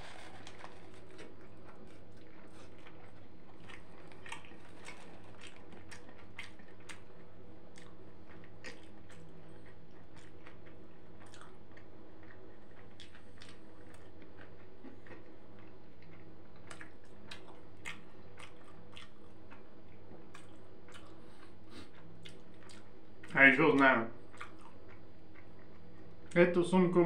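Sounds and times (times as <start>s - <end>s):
man chewing food: 0.0s - 23.4s, 24.2s - 26.4s
steady low hum: 0.0s - 27.0s.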